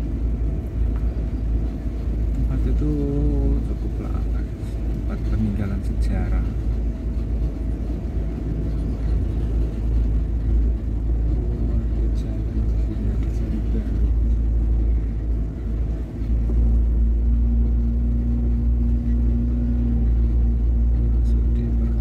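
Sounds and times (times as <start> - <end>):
car rumbling over rough road: 0.0 - 22.0
steady hum: 0.0 - 22.0.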